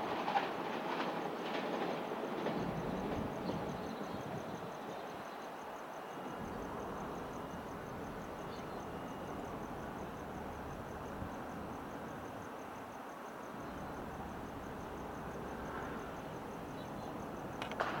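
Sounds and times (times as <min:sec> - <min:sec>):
distant train rumble: 0:00.0 - 0:18.0
outdoor background noise: 0:00.0 - 0:18.0.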